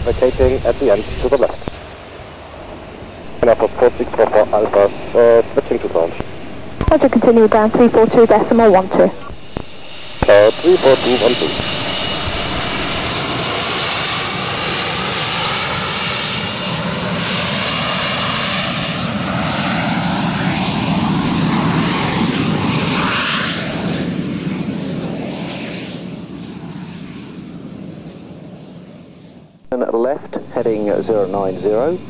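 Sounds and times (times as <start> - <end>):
jet engine whine and rumble: 0.0 - 32.0.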